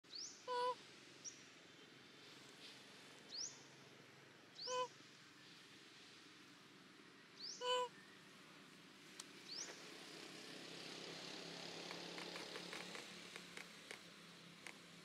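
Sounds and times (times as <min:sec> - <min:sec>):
faint outdoor hiss: 0:00.1 - 0:15.0.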